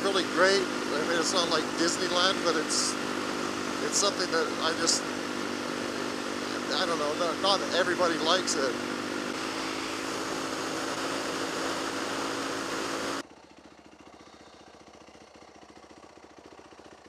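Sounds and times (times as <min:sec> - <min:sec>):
motorcycle engine idling: 0:00.0 - 0:17.0
motorcycle engine running: 0:00.0 - 0:17.0.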